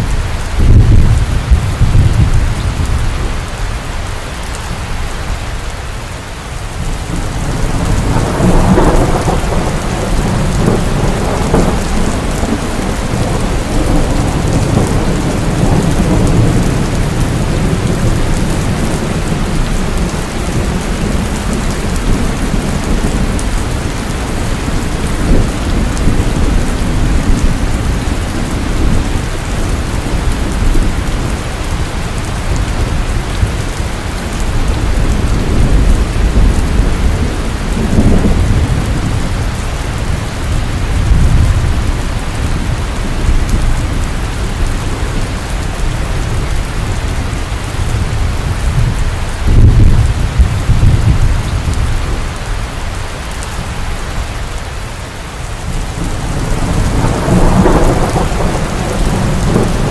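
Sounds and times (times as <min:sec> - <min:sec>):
thunder rumbling: 0:00.0 - 0:03.4, 0:06.7 - 0:54.6, 0:55.2 - 0:59.9
steady rain pouring: 0:00.0 - 0:59.9.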